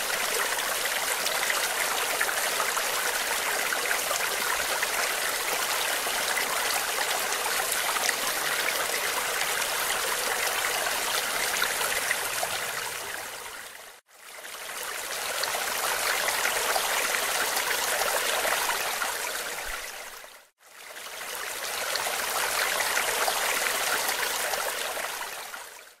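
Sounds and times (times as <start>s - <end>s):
stream water rushing: 0.0s - 25.6s.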